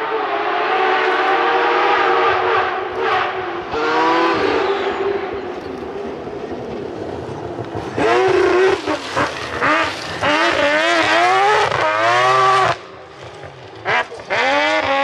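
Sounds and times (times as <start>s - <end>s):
rotary engine revving at full throttle: 0.0s - 15.0s.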